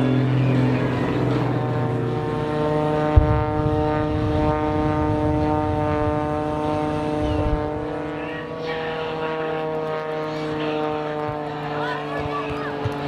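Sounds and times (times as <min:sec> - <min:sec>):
propeller aircraft engine: 0:00.0 - 0:13.0.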